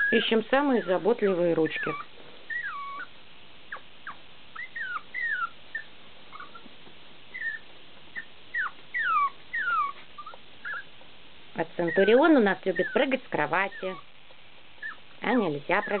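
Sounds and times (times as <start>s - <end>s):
puppy whimpering: 0.0s - 6.7s, 7.3s - 11.0s, 11.8s - 14.1s, 14.8s - 16.0s.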